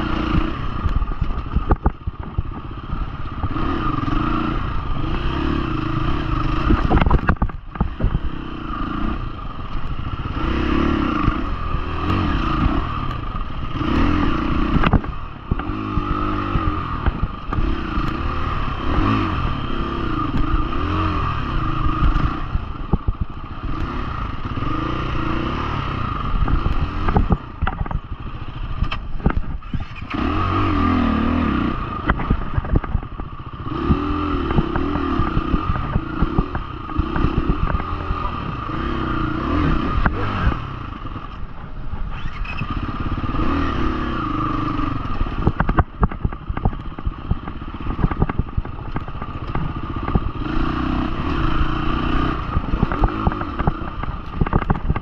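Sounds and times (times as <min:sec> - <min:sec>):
knocks and rattles from bike: 0:00.0 - 0:55.0
motorcycle engine revving: 0:00.0 - 0:55.0.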